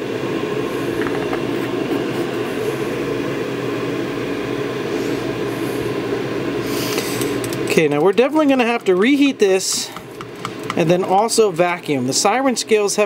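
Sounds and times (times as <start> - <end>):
machine humming: 0.0 - 12.8.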